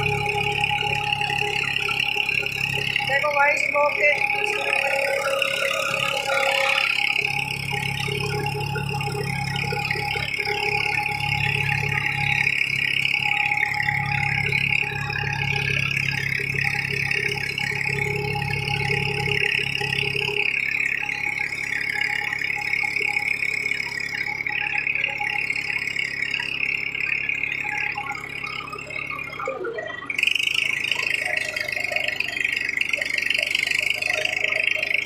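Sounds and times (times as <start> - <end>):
tractor engine rumbling: 0.0 - 35.0.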